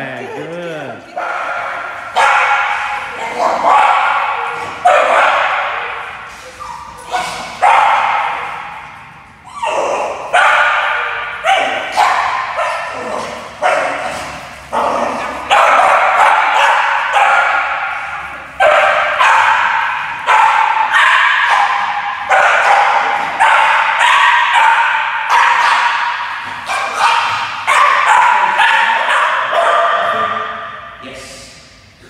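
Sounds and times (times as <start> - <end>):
dog barking in echoing hall: 1.0 - 32.0.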